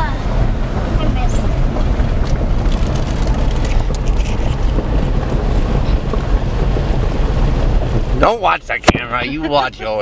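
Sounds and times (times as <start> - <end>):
road and engine noise in cabin: 0.0 - 10.0
wind buffeting microphone: 0.0 - 10.0.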